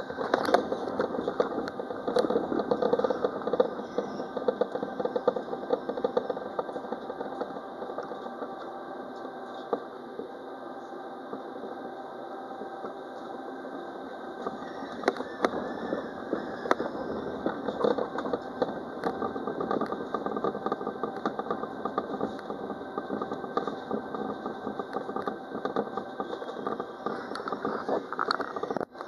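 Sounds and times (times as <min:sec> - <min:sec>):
tram running along track: 0:00.0 - 0:29.0.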